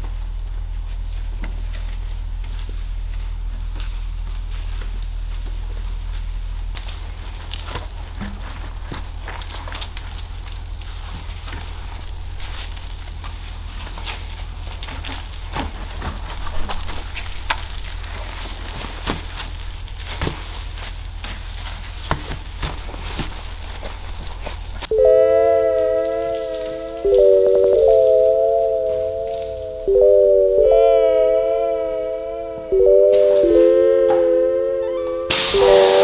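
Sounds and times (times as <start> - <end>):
steady low hum: 0.0 - 36.0
suds crackling: 6.4 - 36.0.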